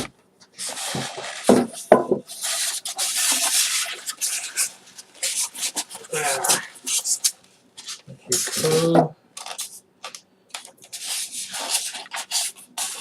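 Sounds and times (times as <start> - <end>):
box packaging scraping and rustling: 0.0 - 13.0.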